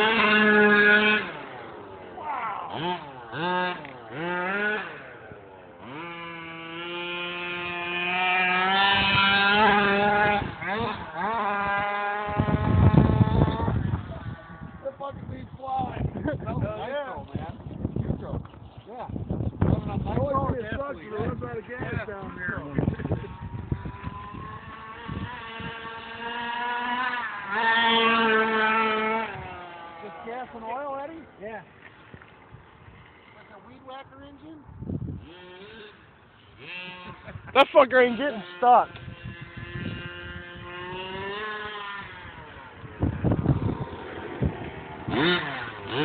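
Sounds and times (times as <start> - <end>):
small two-stroke engine revving: 0.0 - 17.5, 19.5 - 46.0.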